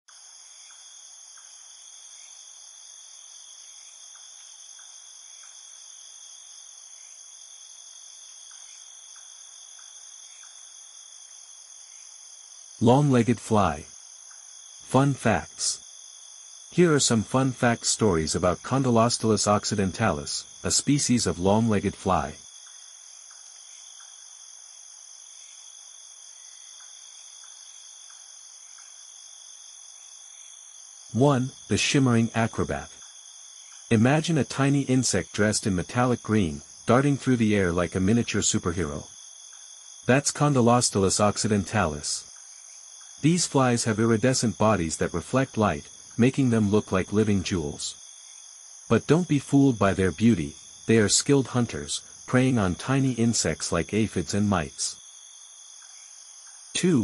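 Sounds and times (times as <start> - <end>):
shrill insect chorus: 0.1 - 57.0.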